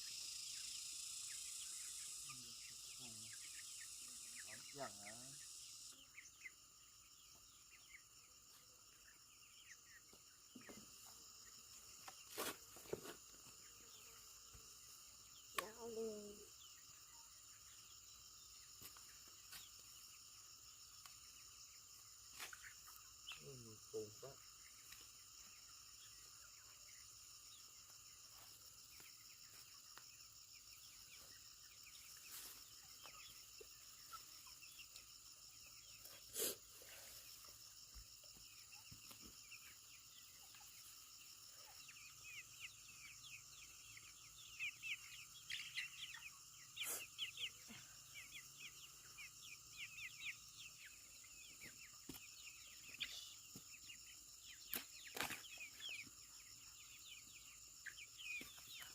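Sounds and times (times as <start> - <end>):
birds chirping: 0.0 - 58.9
high insect drone: 0.0 - 58.9.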